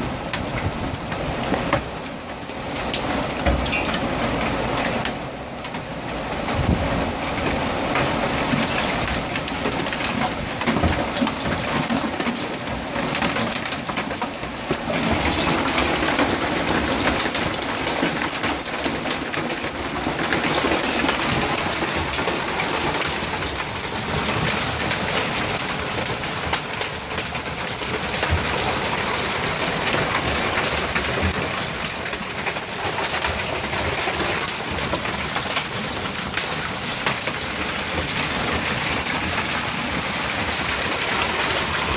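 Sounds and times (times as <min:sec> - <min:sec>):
hail pelting down: 0:00.1 - 0:41.9.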